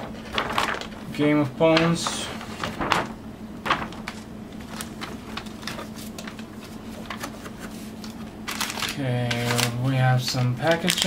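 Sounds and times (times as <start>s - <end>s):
faint steady hum: 0.0s - 11.0s
paper poster rustling: 0.0s - 11.0s.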